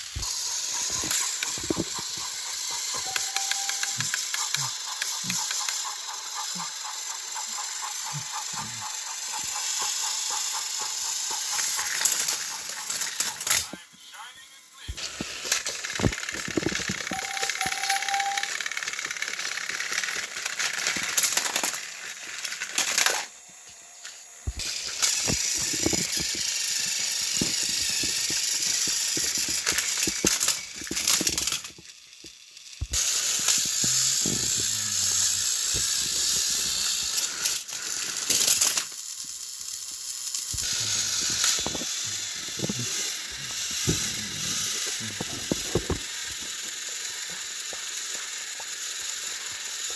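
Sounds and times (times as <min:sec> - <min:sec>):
toy train motors whirring: 0:00.0 - 0:49.9.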